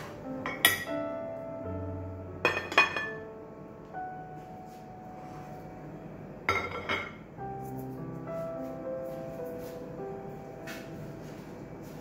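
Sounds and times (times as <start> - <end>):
gentle melodic music: 0.0 - 12.0.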